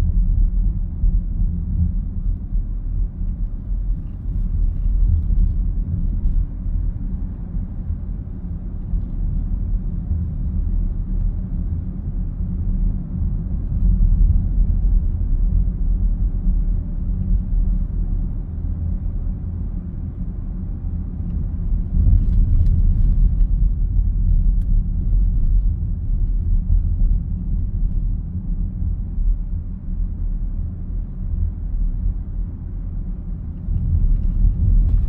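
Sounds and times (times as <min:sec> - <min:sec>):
low droning road rumble in cabin: 0:00.0 - 0:35.0.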